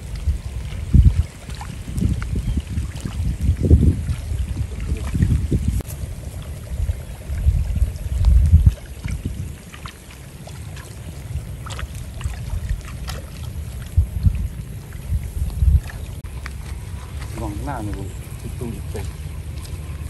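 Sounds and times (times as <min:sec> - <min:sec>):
light rain drops ticking: 0:00.0 - 0:20.0
wind buffeting microphone: 0:00.0 - 0:20.0.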